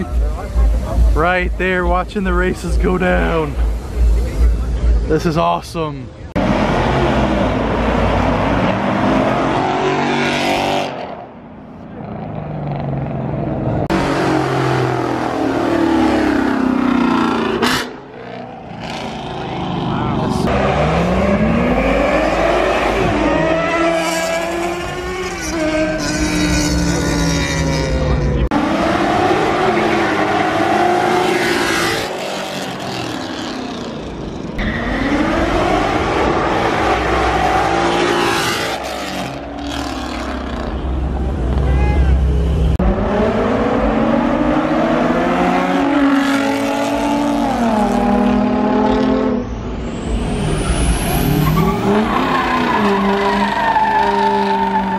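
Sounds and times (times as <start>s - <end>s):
cars accelerating hard: 6.3s - 41.6s, 42.6s - 54.9s.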